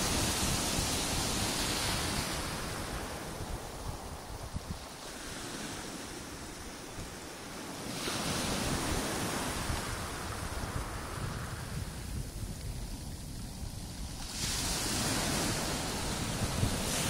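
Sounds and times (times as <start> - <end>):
sea waves washing on shore: 0.0 - 17.0
wind buffeting microphone: 0.0 - 17.0.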